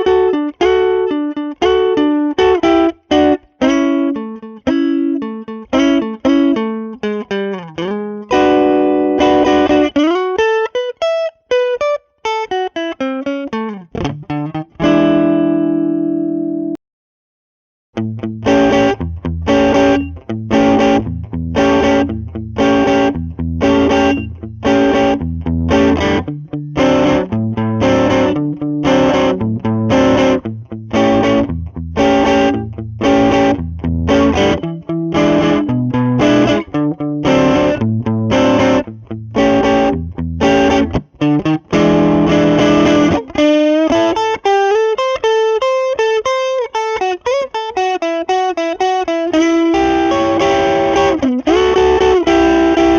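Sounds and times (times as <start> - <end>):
guitar single-note line with bends: 0.0 - 16.8, 18.0 - 52.9
overdriven electric guitar chords: 0.0 - 16.8, 18.0 - 52.9.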